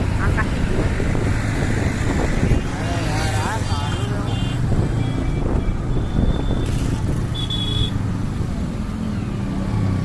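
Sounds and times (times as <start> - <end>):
engine and road traffic rumble: 0.0 - 10.0.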